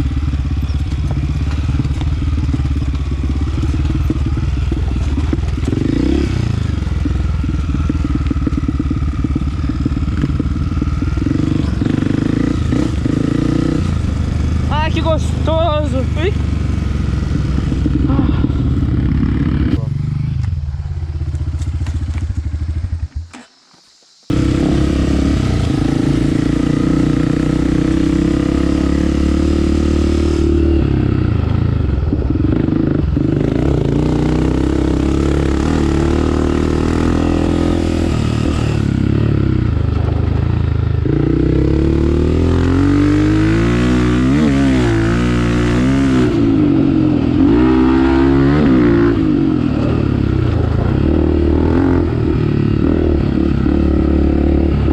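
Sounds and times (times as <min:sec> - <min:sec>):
motorcycle engine running: 0:00.0 - 0:23.4, 0:24.1 - 0:54.9.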